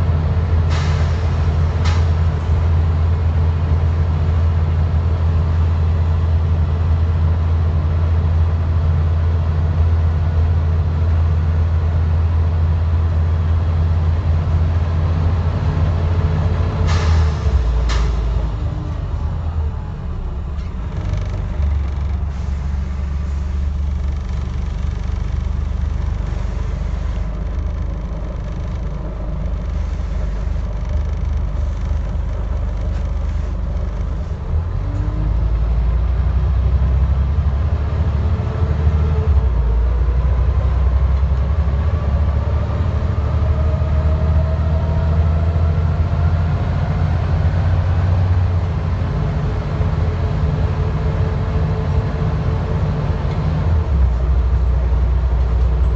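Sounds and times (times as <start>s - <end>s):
bus diesel engine rumble: 0.0s - 55.9s.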